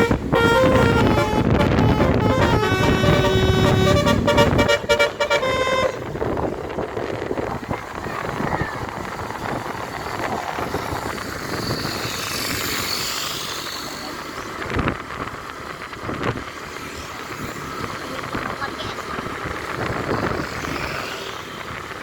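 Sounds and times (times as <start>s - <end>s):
road traffic rush: 0.0s - 22.0s.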